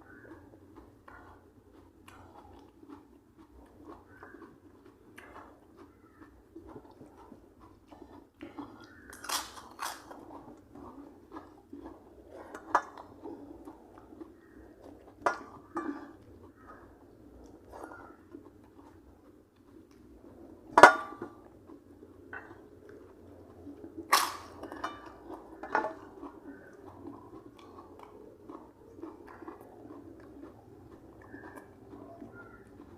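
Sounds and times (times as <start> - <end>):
person chewing food: 0.0 - 32.9
sharp food crunches: 0.1 - 32.9.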